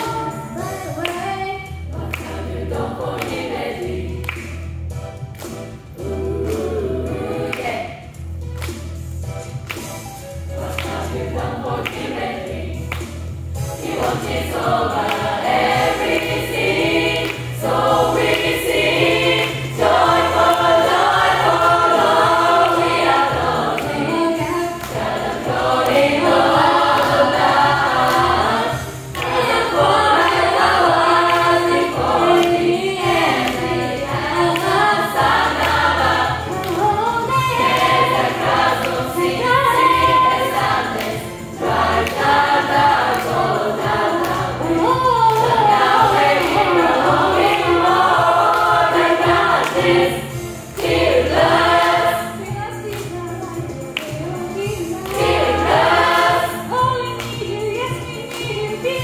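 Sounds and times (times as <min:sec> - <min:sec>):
gospel choir singing: 0:00.0 - 0:08.2, 0:09.8 - 0:59.0.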